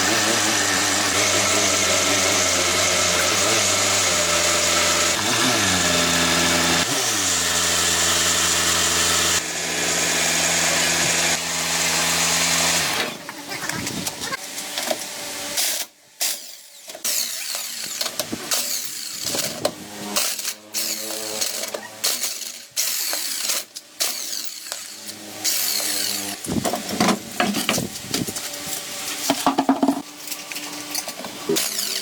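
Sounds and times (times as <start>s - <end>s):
power tool motor whining: 0.0s - 14.4s, 16.9s - 32.0s
power tool scraping and grinding: 0.0s - 32.0s.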